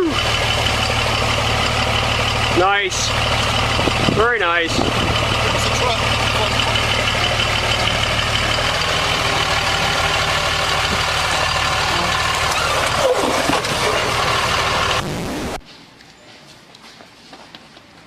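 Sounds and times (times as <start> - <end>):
vehicle engine running: 0.0 - 15.7.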